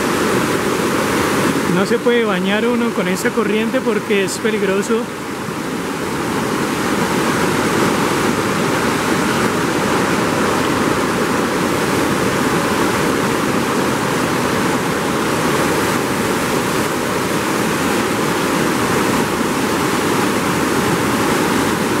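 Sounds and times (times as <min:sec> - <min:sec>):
river rushing through rapids: 0:00.0 - 0:22.0.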